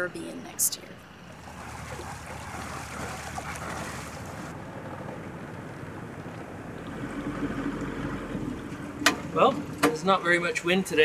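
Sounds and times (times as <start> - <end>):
water rushing past a hull: 1.0 - 10.5.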